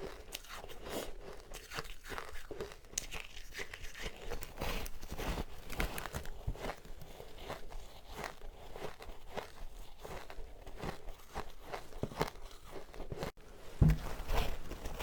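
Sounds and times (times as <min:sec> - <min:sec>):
chewing crunchy ice: 0:00.0 - 0:13.4.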